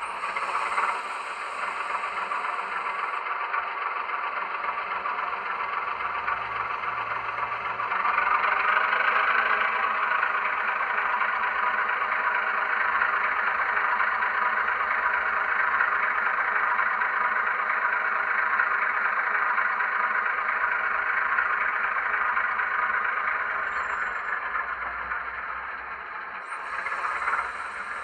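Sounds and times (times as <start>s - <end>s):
diesel engine sound from small speaker: 0.0s - 28.0s.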